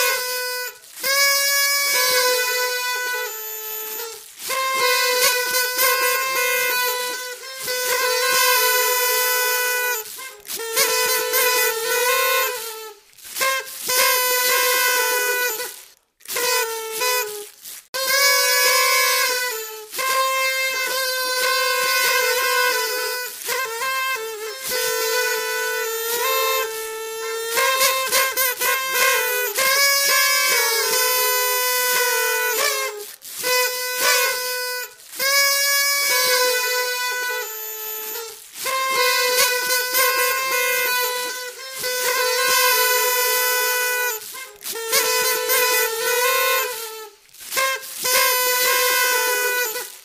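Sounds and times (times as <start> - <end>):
party trumpets blowing: 0.0 - 50.0.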